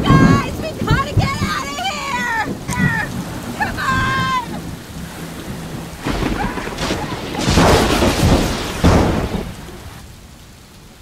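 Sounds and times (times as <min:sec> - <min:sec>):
rumbling thunder: 0:00.0 - 0:11.0
steady rain: 0:00.0 - 0:11.0.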